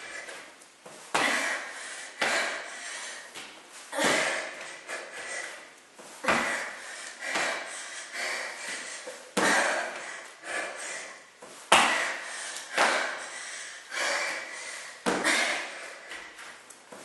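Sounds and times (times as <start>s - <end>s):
hard breathing: 0.0s - 16.6s.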